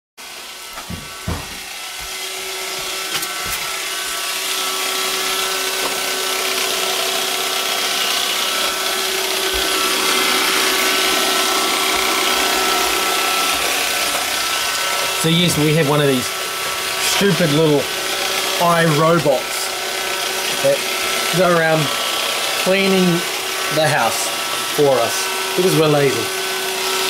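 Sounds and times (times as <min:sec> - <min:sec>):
robot vacuum whirring: 0:00.2 - 0:27.0.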